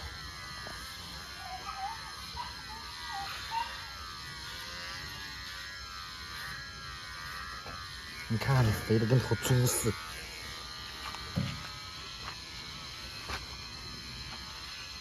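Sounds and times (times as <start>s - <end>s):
electric hair clippers buzzing: 0.0s - 15.0s.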